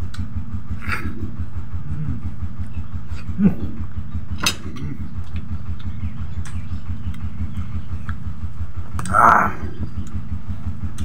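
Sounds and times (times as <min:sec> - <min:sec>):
motor throbbing: 0:00.0 - 0:11.0.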